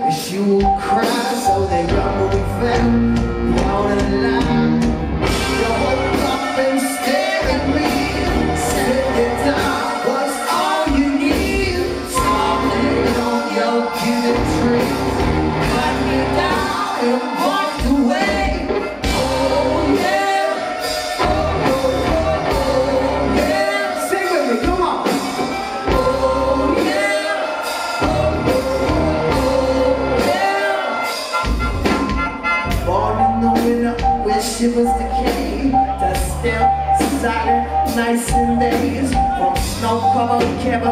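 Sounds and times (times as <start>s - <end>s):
person singing: 0.0s - 40.9s
rock band playing live: 0.0s - 40.9s.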